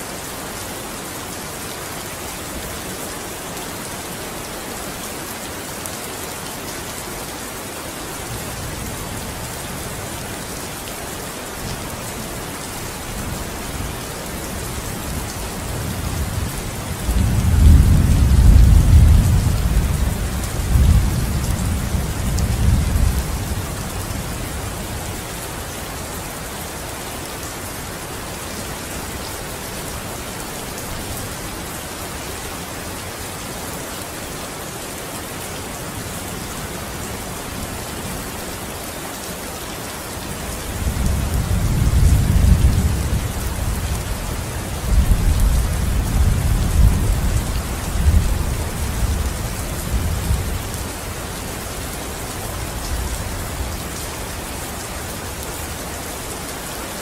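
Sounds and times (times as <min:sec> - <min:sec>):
rain on a window: 0:00.1 - 0:57.0.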